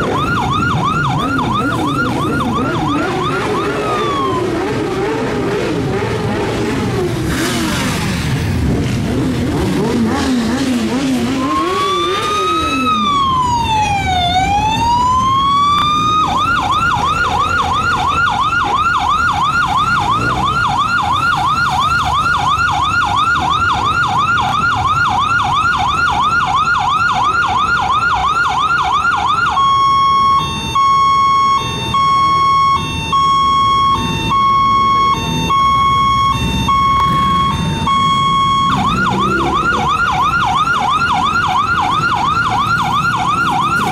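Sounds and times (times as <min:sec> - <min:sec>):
electronic siren: 0:00.0 - 0:08.5, 0:09.1 - 0:43.9
motorcycle engines running: 0:00.0 - 0:28.0, 0:33.2 - 0:43.9.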